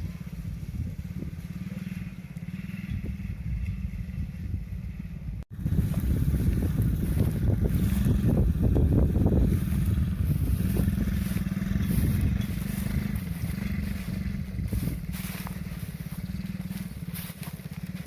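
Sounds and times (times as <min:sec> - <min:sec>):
small atv engine running: 0:00.0 - 0:18.0.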